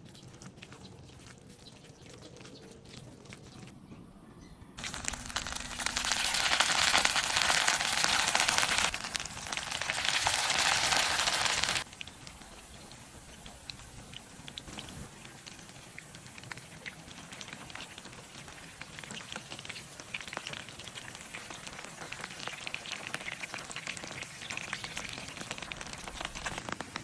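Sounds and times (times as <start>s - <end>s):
fritters sizzling in hot oil: 4.8s - 27.0s.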